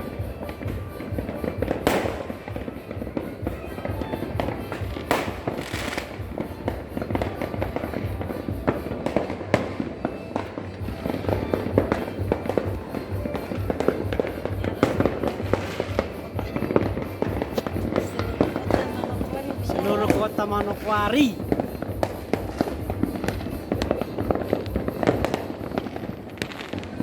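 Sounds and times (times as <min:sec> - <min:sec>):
background music with low beat: 0:00.0 - 0:27.0
fireworks popping and banging: 0:00.0 - 0:27.0.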